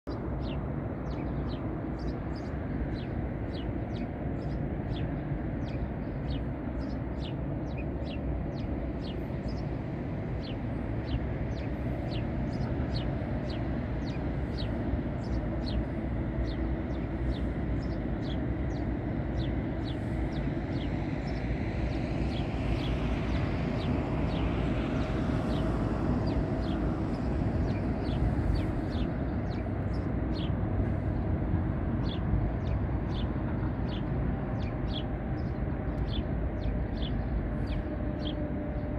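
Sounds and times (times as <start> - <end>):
road traffic rumble: 0.1 - 38.9.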